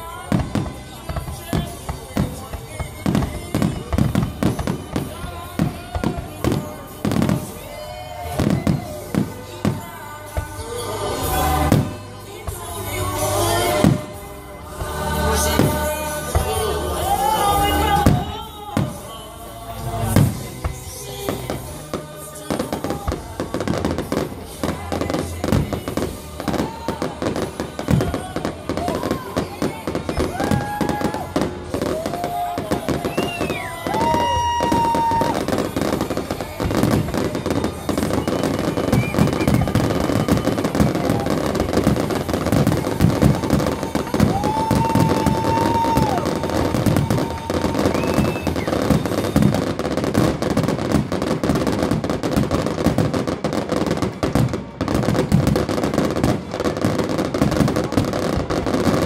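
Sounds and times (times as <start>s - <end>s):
fireworks bursting and crackling: 0.0s - 59.0s
fireworks whistling: 0.0s - 59.0s.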